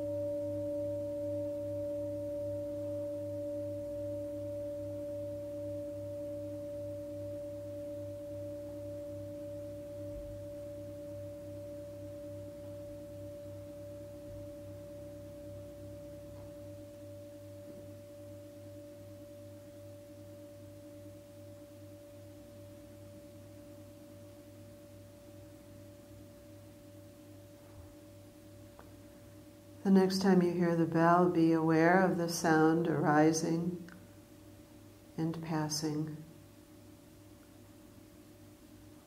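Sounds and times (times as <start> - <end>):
meditation bell ringing: 0.0 - 33.6.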